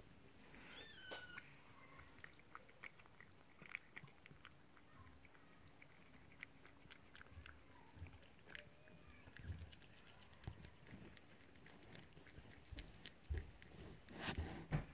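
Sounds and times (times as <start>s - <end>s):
cat chewing food: 0.0s - 14.9s.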